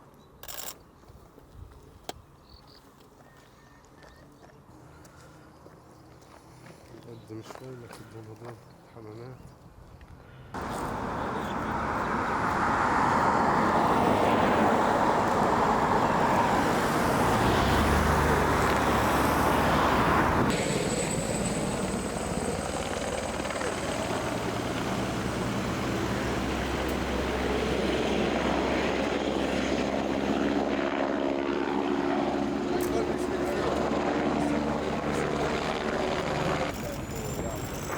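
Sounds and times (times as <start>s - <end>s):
aircraft engines running: 3.0s - 37.9s.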